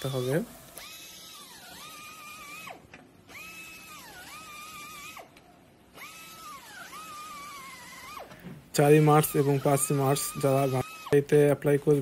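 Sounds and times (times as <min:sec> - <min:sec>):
grinding tool whining: 0:00.0 - 0:12.0.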